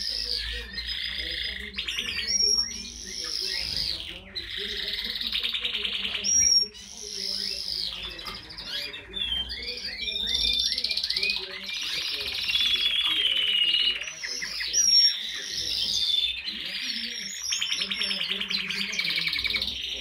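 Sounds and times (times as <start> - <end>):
canaries singing trills: 0.0 - 20.0.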